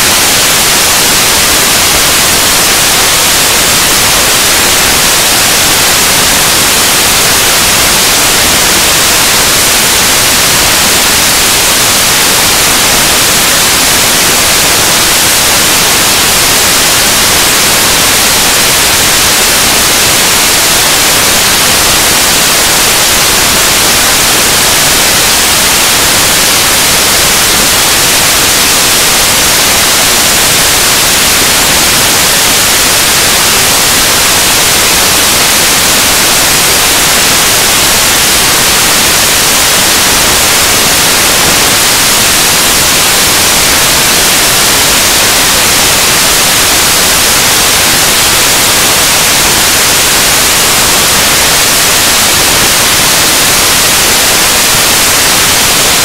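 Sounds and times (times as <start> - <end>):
loud static hiss: 0.0 - 56.0.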